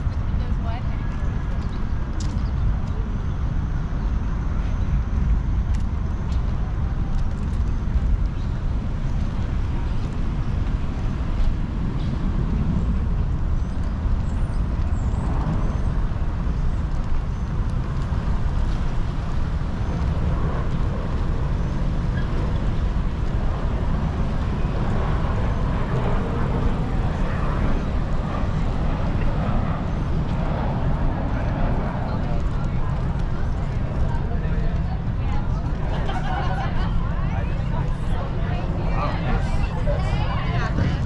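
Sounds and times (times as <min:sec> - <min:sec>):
wind rumble on microphone: 0:00.0 - 0:41.0.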